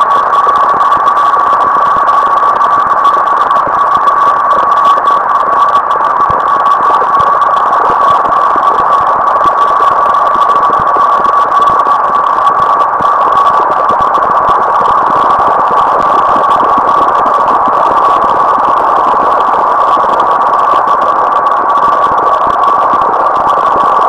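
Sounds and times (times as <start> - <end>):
fast crackles: 0.0 - 24.0
loud steady noise band: 0.0 - 24.0
thin steady tone: 0.0 - 24.0.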